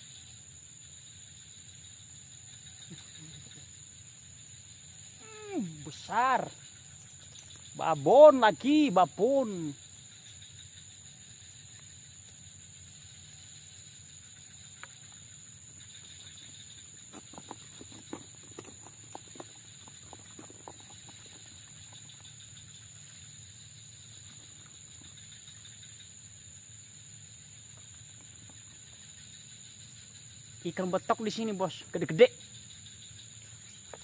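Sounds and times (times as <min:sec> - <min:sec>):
insect drone: 0:00.0 - 0:34.0.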